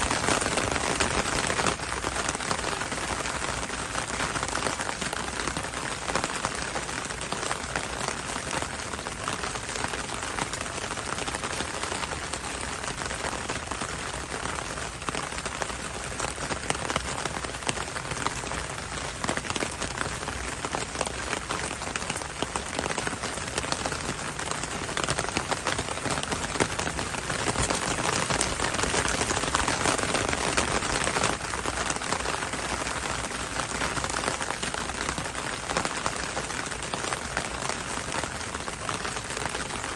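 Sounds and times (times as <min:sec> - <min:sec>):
heavy rain falling: 0:00.0 - 0:39.9
raindrops ticking on a surface: 0:00.0 - 0:39.9.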